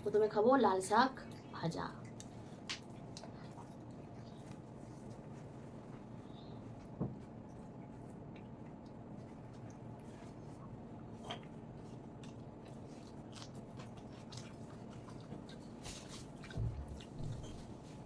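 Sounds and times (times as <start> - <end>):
chewing and wet mouth sounds: 1.3 - 18.0.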